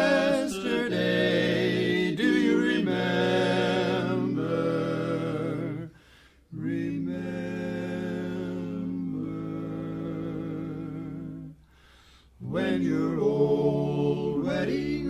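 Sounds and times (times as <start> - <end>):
vocal quartet singing harmony: 0.0 - 15.0.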